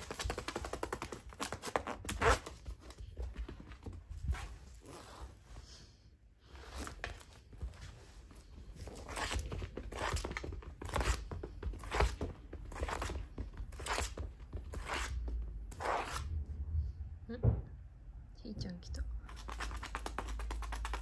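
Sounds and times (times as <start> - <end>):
cat playing on tatami mats: 0.0 - 16.3, 19.2 - 21.0.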